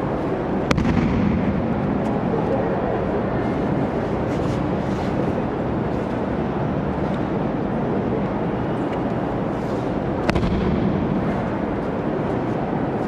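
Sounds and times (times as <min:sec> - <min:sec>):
rumbling hall noise: 0:00.0 - 0:13.0.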